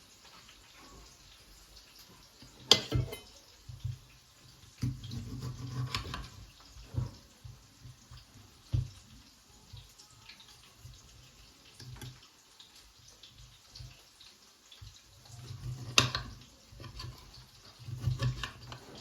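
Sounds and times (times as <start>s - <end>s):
water running in a sink: 0.0s - 19.0s.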